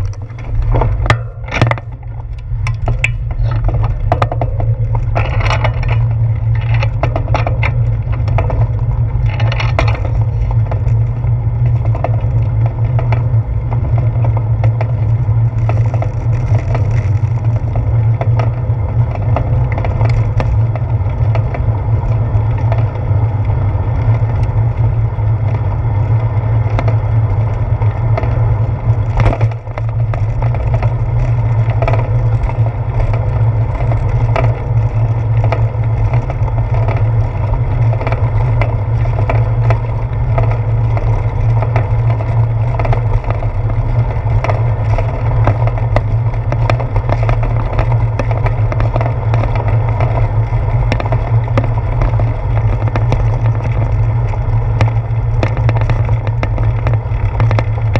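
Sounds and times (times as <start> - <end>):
bicycle rolling over bricks: 0.0 - 57.9
small clacks and rattles: 0.0 - 57.9.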